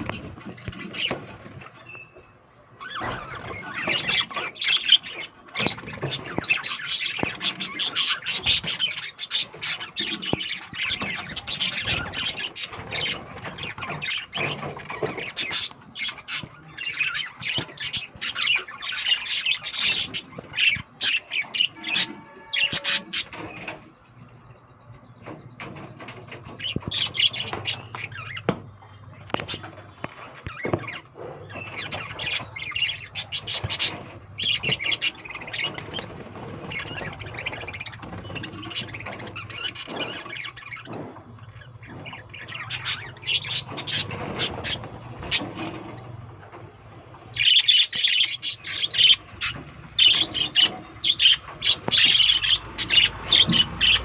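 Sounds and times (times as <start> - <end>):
parrots chirping and squawking: 0.0 - 24.5, 25.2 - 54.0.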